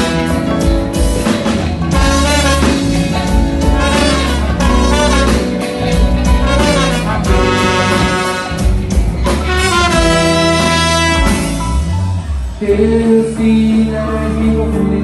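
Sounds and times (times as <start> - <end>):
live band with horn section: 0.0 - 15.0.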